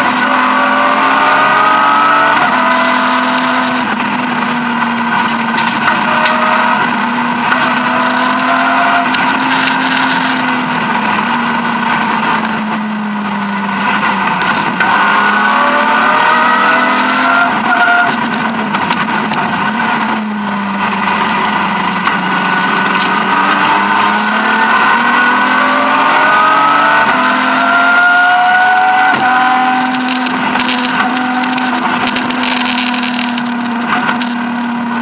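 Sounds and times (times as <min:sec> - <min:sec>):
car engine revving hard: 0:00.0 - 0:35.0.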